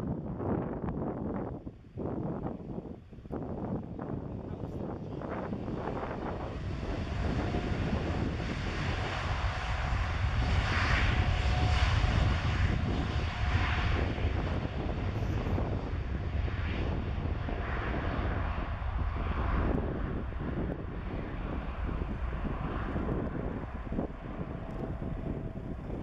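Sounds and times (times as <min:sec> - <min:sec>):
jet engines rumbling and hissing: 0:00.0 - 0:26.0.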